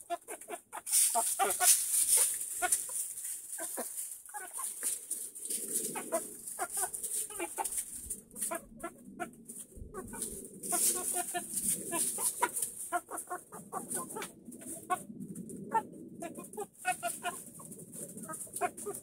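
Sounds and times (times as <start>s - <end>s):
chickens clucking: 0.0s - 19.0s
scratching in wood shavings: 0.0s - 19.0s
soft chicken chatter: 0.0s - 19.0s.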